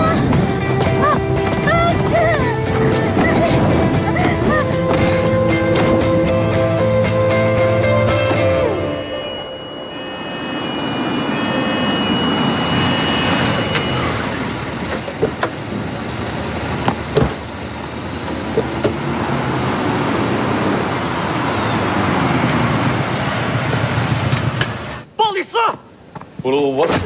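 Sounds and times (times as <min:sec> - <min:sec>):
vehicle engines and road noise: 0:00.0 - 0:25.2.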